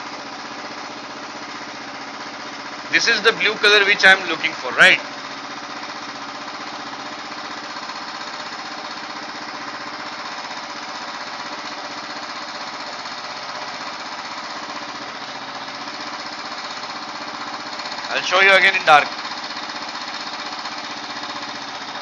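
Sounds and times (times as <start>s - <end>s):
single-cylinder engine idling: 0.0s - 22.0s.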